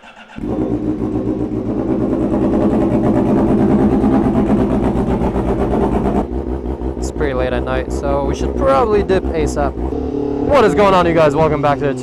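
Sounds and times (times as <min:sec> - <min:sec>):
motorcycle engine starting and running: 0:00.0 - 0:12.0.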